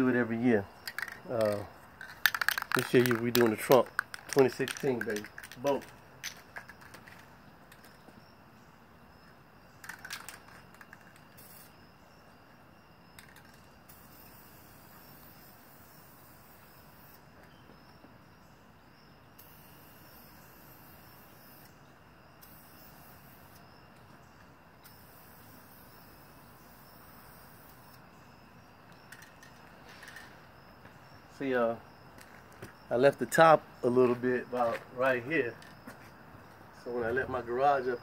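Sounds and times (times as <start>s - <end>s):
faint steady hiss: 0.0s - 38.0s
high insect-like hum: 0.0s - 38.0s.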